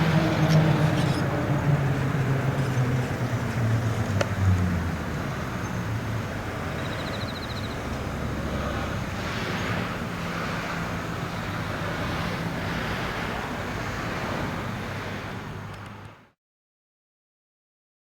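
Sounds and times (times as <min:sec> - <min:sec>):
car engine hum: 0:00.0 - 0:15.7
road noise: 0:00.0 - 0:16.4.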